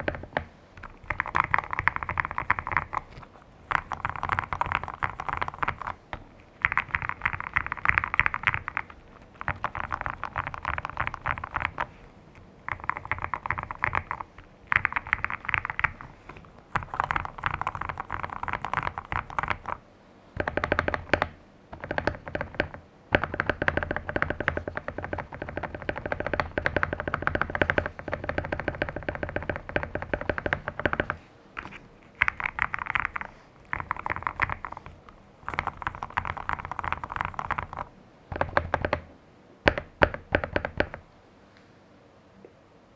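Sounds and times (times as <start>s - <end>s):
fast typing on mechanical keyboard: 0.0s - 19.8s, 20.4s - 39.1s, 39.7s - 41.1s.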